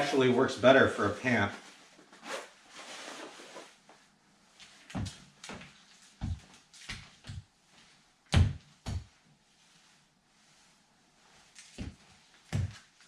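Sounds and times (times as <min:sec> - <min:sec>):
clothing rustling: 0:00.0 - 0:13.0.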